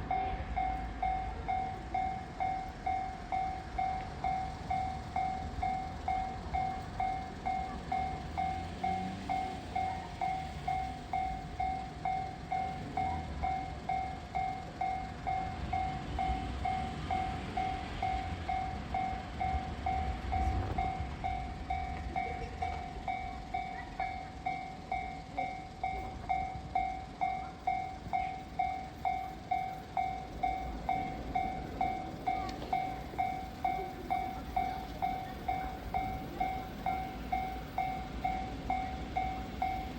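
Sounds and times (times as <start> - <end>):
freight train rumbling: 0.0 - 39.9
level-crossing warning bell ringing: 0.0 - 39.9.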